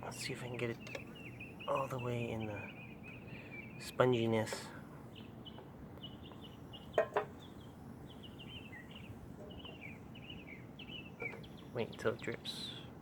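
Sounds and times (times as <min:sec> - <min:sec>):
small birds twittering: 0:00.0 - 0:13.0.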